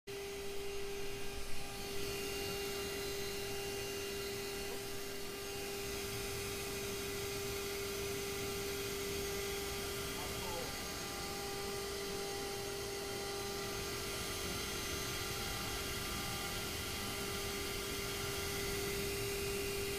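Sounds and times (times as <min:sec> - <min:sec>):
saw cutting with steady hum: 0:00.1 - 0:19.9.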